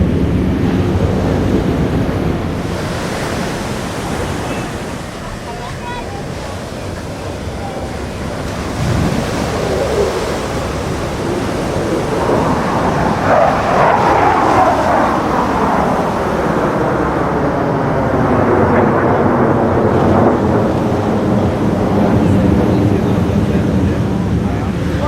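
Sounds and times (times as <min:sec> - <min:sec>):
jet whine sweeping down: 0:00.0 - 0:24.0
fighter jets roaring overhead: 0:00.0 - 0:25.0.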